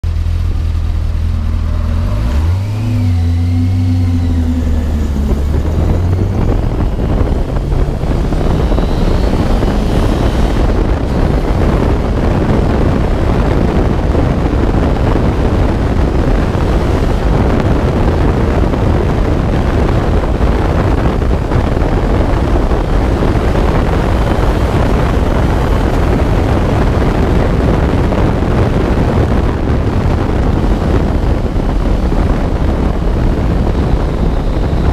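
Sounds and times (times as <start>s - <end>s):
engine revving and accelerating: 0.0s - 34.9s
wind rushing: 0.4s - 34.9s.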